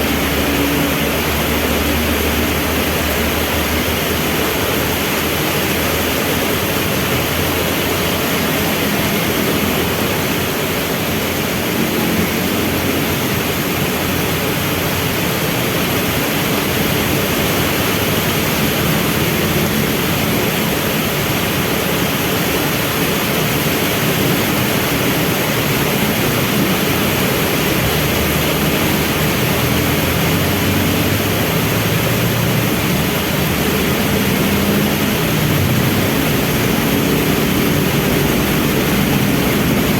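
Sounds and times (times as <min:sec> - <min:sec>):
heavy rain falling: 0:00.0 - 0:39.9
traffic engines rumbling: 0:00.0 - 0:39.9.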